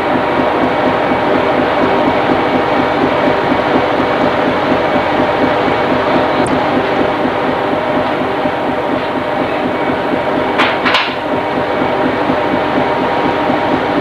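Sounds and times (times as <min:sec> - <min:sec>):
ship engines and deck machinery: 0:00.0 - 0:14.0.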